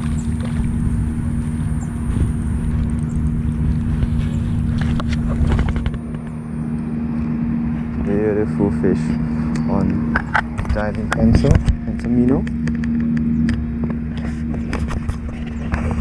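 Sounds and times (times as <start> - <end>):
low hum: 0.0 - 16.0
low rumble: 0.0 - 16.0
thin high whine: 0.0 - 16.0.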